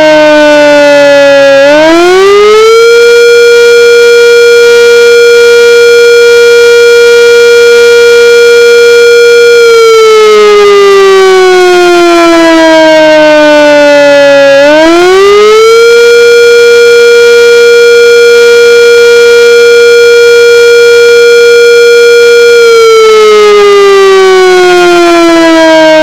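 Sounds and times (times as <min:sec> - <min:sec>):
loud distorted fire siren wail: 0:00.0 - 0:26.0.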